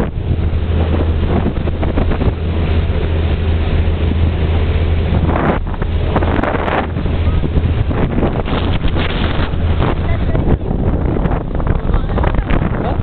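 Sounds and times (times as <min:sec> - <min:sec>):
rush of wake and spray: 0:00.0 - 0:13.0
wind buffeting microphone: 0:00.0 - 0:13.0.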